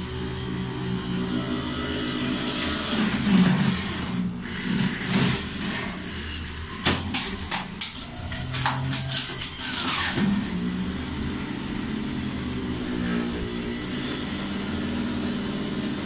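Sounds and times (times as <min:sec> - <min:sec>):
electric juicer motor humming: 0:00.0 - 0:16.0.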